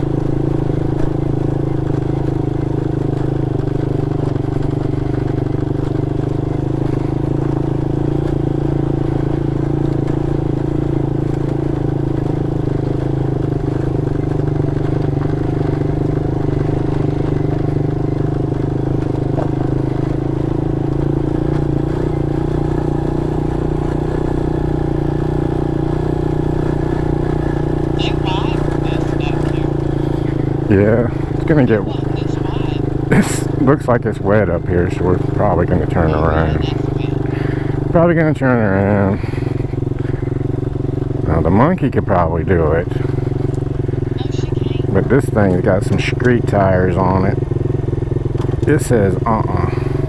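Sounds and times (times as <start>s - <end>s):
mini motorcycle engine running: 0.0s - 50.0s.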